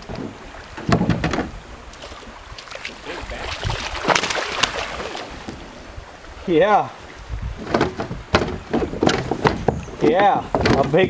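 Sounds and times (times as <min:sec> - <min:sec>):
water splashing around a kayak: 0:00.0 - 0:11.0.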